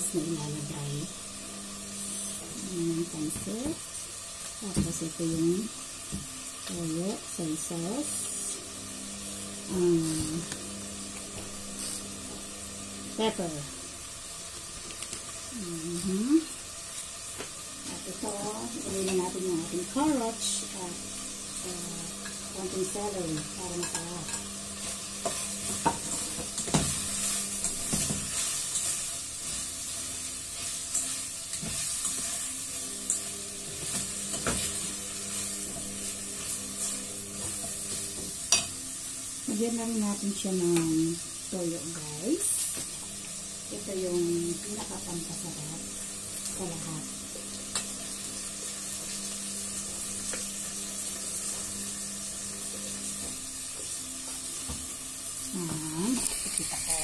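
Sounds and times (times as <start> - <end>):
food sizzling: 0.0 - 57.0.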